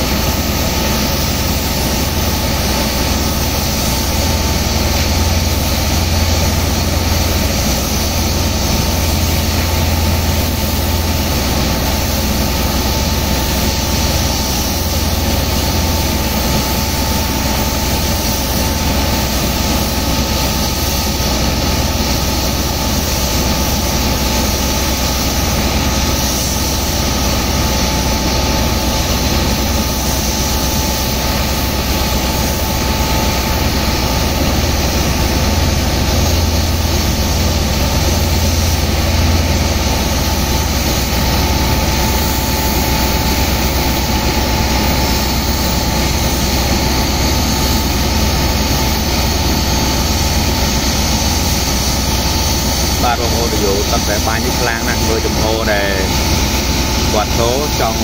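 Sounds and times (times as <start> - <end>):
high-pressure water jets hissing: 0.0 - 58.0
pump engine droning: 0.0 - 58.0.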